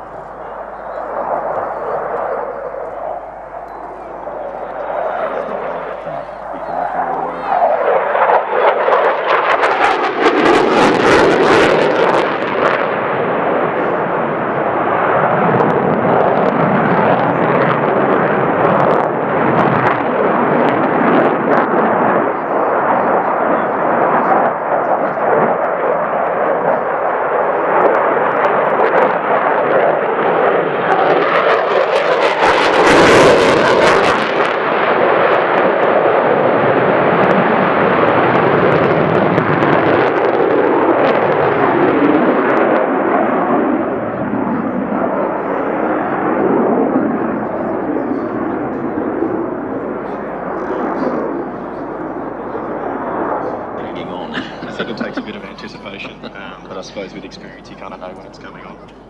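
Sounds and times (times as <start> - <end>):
jet fighter roaring past: 0.0 - 59.0.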